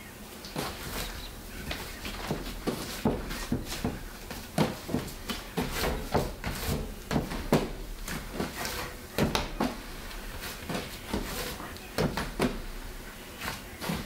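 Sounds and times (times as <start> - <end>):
bread dough thumping on bench: 1.6 - 12.9.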